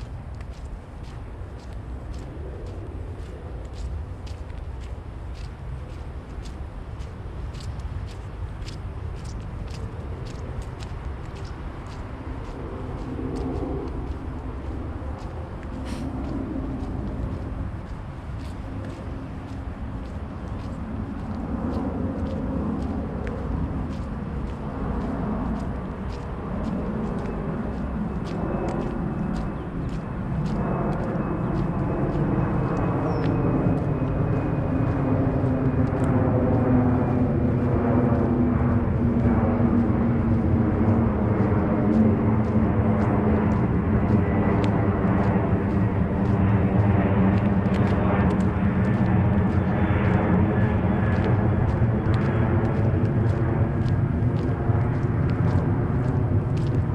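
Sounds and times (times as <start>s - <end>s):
jet airliner flying overhead: 0.0s - 56.9s.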